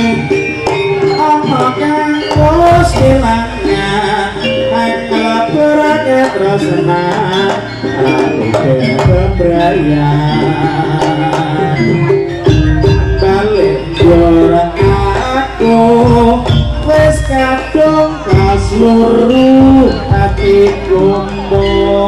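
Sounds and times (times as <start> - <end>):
hand drums beating: 0.0 - 22.0
tuned metal percussion melody: 0.0 - 22.0.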